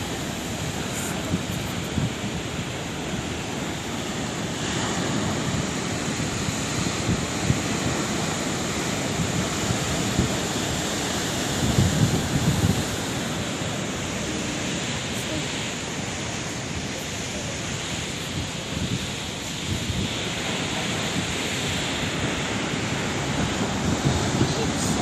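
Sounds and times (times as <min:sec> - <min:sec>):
sea waves washing on shore: 0:00.0 - 0:25.0.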